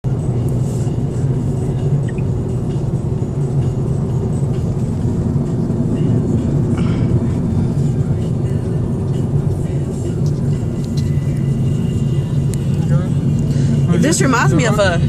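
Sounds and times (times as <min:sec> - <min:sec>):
car interior road noise: 0:00.0 - 0:15.0.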